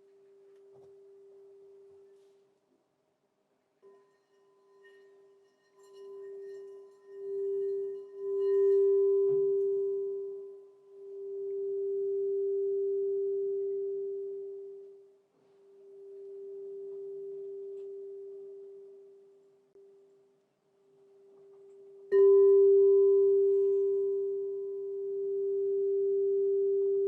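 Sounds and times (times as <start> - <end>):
singing bowl low tone: 3.8 - 20.1, 21.1 - 27.0
faint higher ringing: 3.8 - 27.0.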